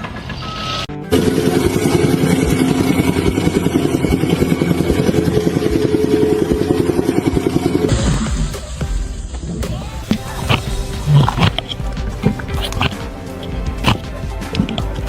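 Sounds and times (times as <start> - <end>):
machine motor pulsing: 1.1 - 15.0.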